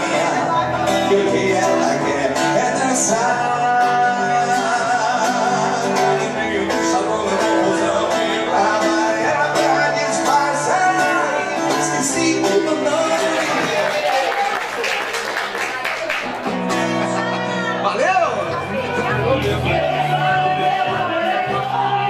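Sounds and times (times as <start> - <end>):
guitar music with held notes: 0.0 - 14.0, 16.2 - 22.0.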